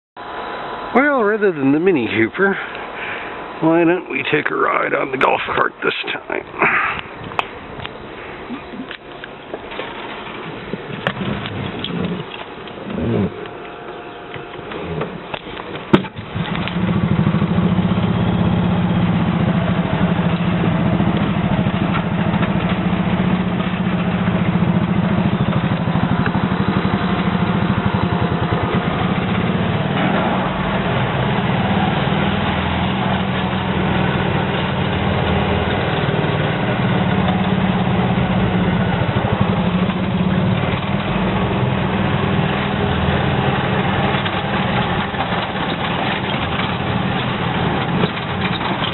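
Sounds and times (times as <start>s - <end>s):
small petrol engine running: 8.4s - 48.9s.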